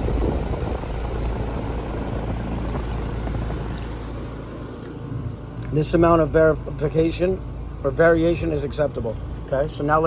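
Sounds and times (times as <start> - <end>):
air conditioning unit running: 0.0 - 10.0.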